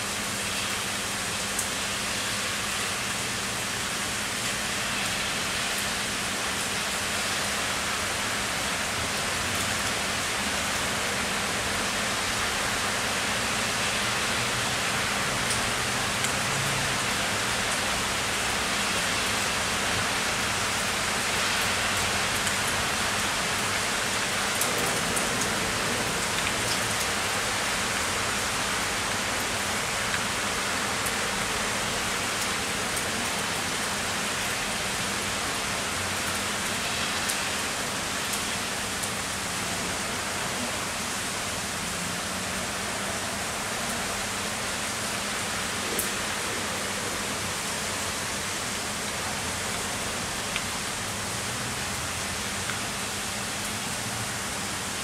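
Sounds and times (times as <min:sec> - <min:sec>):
heavy rain on surfaces: 0:00.0 - 0:55.0.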